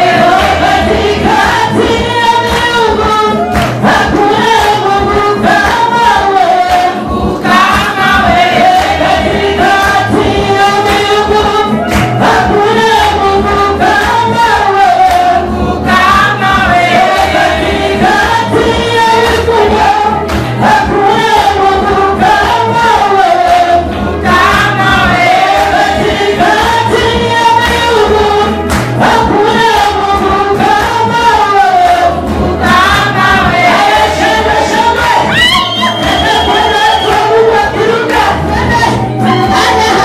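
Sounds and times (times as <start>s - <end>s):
woman singing into microphone: 0.0s - 40.0s
women singing along: 0.0s - 40.0s.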